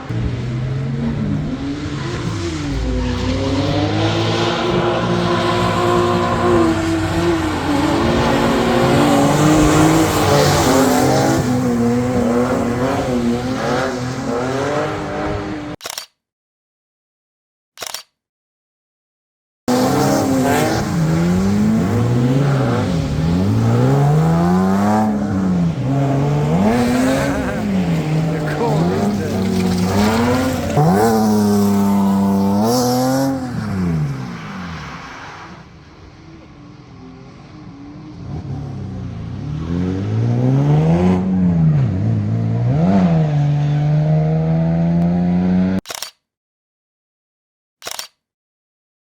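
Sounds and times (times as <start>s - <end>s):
car engine revving: 0.0s - 15.8s, 19.7s - 45.8s.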